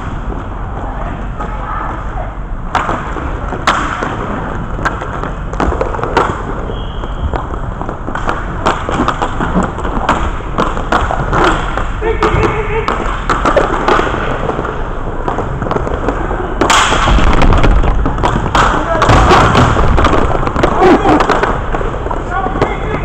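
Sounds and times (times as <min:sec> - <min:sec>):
skate wheels rolling on floor: 0:00.0 - 0:23.0
sticks and puck knocking: 0:02.7 - 0:23.0.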